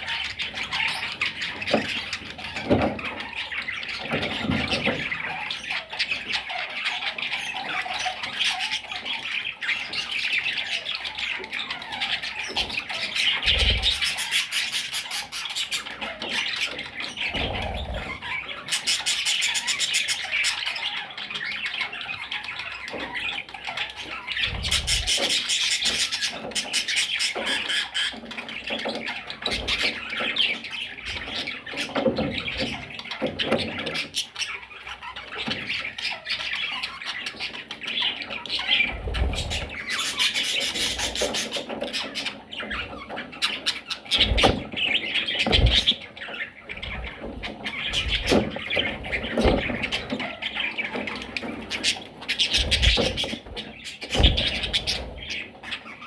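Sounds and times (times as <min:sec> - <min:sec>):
budgerigars chattering and squawking: 0:00.0 - 0:56.0.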